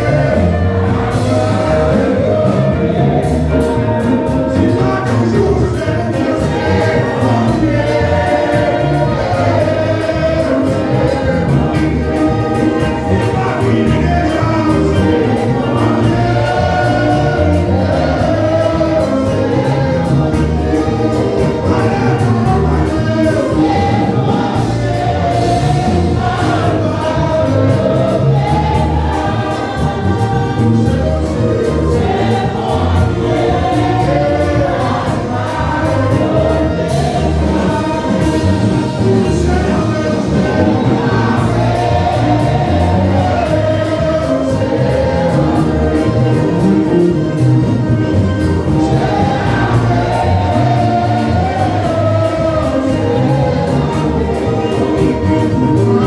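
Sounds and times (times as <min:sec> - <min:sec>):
group singing gospel song: 0:00.0 - 0:56.0.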